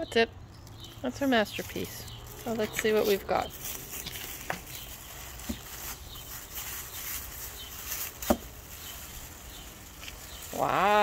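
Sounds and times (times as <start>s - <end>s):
plastic bag crinkling: 0.5s - 11.0s.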